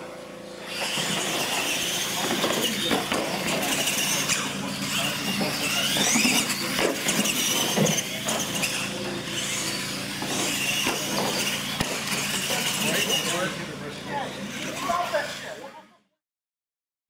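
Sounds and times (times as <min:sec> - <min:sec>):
toy truck motors whining: 0:00.6 - 0:15.9.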